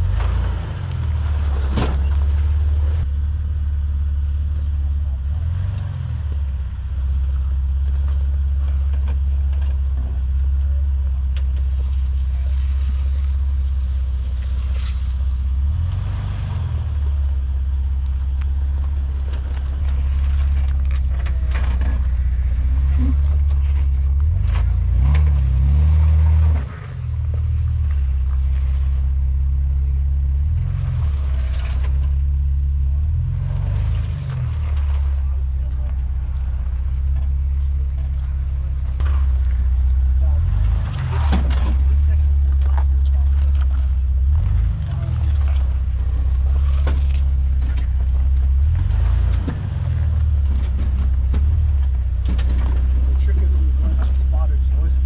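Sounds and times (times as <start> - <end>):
car engine running at low speed: 0.0 - 55.0
tyres crunching on rock and gravel: 7.1 - 55.0.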